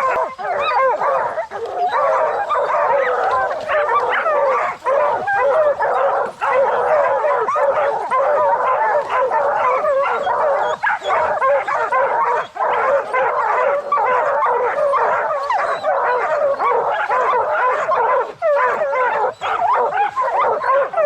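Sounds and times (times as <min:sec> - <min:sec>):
hounds baying and barking: 0:00.0 - 0:21.0.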